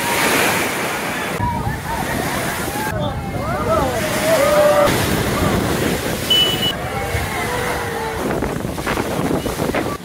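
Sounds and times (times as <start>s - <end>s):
faint crowd voices: 0.0s - 10.0s
surf crashing on sea wall: 0.0s - 10.0s
wind buffeting microphone: 1.4s - 10.0s.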